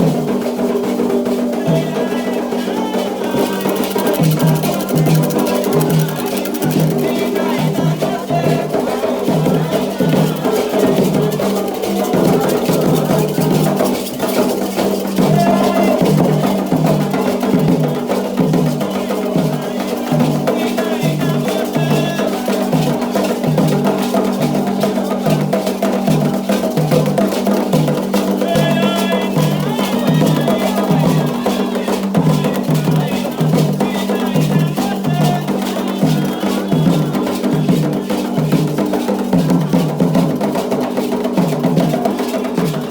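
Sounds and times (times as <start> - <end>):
hand drums beating: 0.0 - 42.9
voices singing: 0.6 - 42.9.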